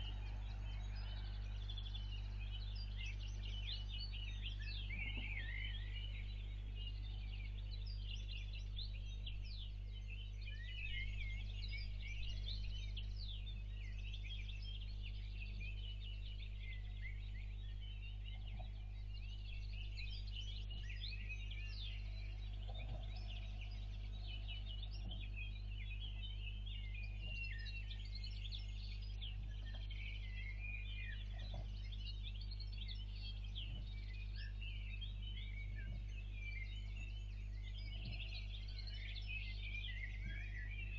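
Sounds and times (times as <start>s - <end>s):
low electrical hum: 0.0s - 40.9s
small birds chirping: 0.0s - 40.9s.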